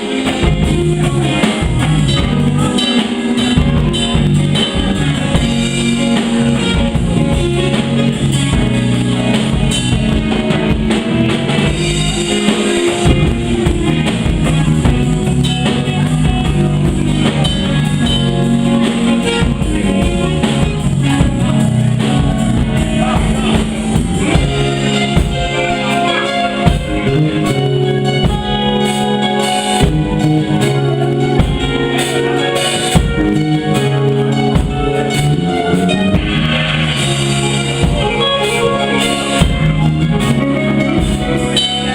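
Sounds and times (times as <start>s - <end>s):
drum kit: 0.0s - 41.9s
electric guitar: 0.0s - 41.9s.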